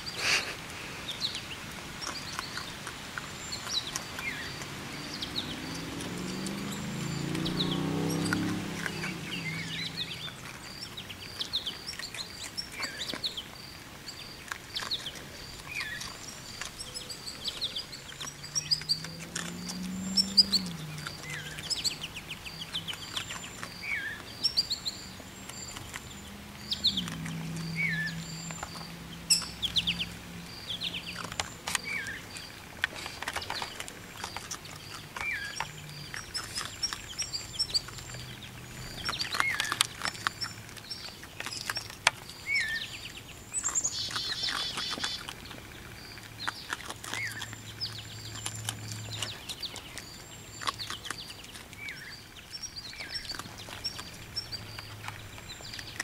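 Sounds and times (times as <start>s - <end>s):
baby raccoons chirping: 0.0s - 56.0s.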